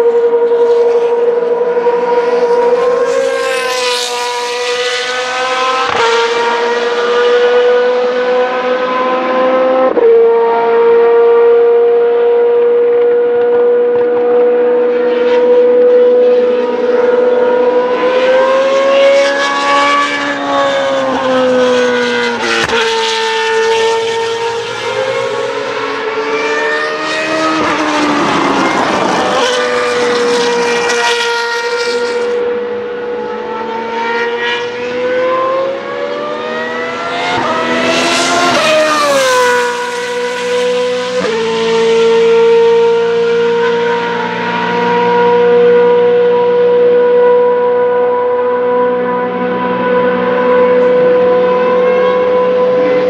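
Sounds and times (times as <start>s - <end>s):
race car engines at high revs: 0.0s - 53.0s.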